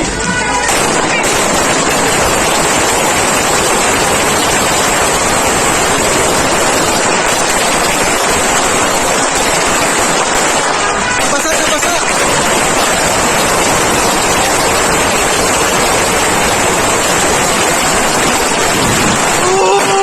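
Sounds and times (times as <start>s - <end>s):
firecracker string crackling: 0.0s - 20.0s.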